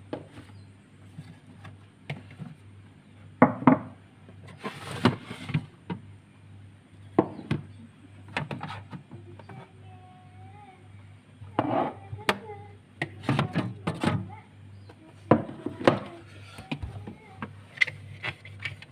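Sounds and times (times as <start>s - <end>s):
faint low hum: 0.0s - 18.9s.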